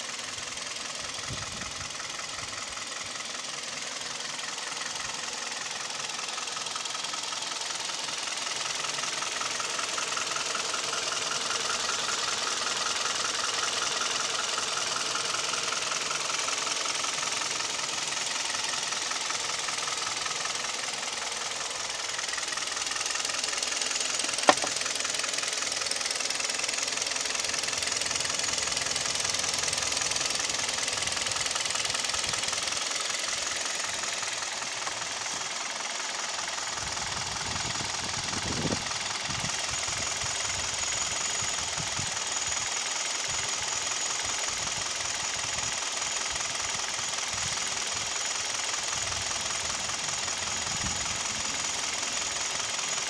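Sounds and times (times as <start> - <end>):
car engine running with knock: 0.0 - 53.0.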